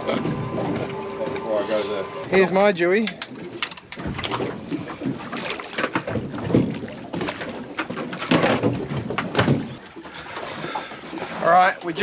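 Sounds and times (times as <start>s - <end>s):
water slapping hull: 0.0s - 12.0s
fish splashing and thrashing: 2.2s - 12.0s.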